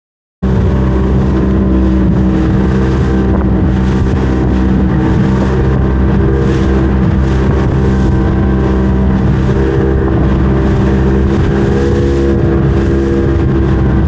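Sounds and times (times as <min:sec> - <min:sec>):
boat motor running: 0:00.4 - 0:14.0.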